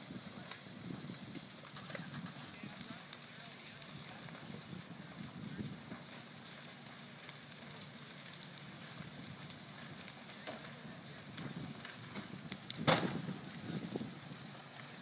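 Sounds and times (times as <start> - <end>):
fire crackling: 0.0 - 15.0
fire popping: 0.0 - 15.0.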